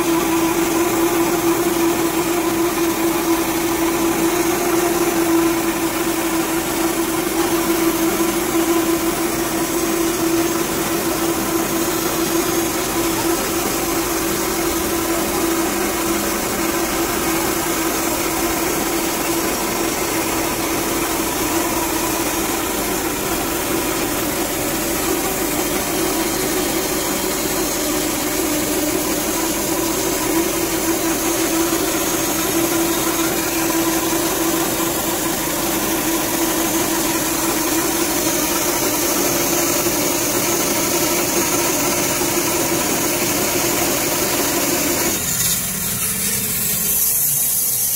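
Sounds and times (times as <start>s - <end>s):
band sawmill cutting log: 0.0s - 47.9s.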